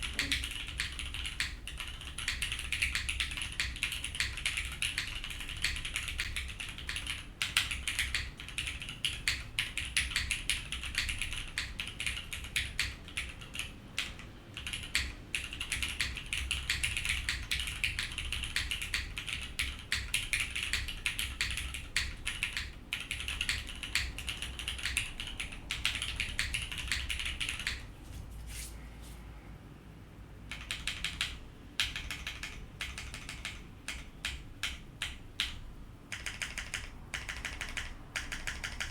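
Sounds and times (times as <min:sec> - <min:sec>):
fast mechanical keyboard typing: 0:00.0 - 0:27.8, 0:30.5 - 0:38.9.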